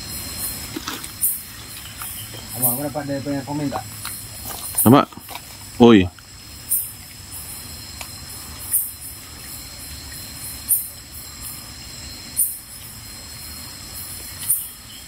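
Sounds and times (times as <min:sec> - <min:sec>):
high-pitched insect chirp: 0:00.0 - 0:15.0
insects droning: 0:00.0 - 0:15.0.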